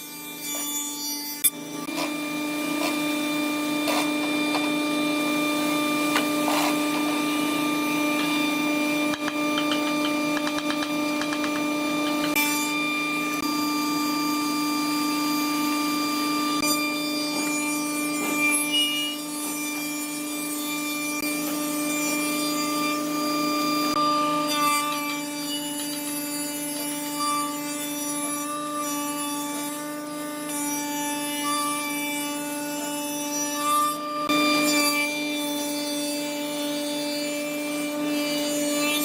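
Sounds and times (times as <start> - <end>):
rasping wood cutting: 0.0 - 14.3, 16.2 - 39.0
woodworking machine whining: 0.0 - 39.0.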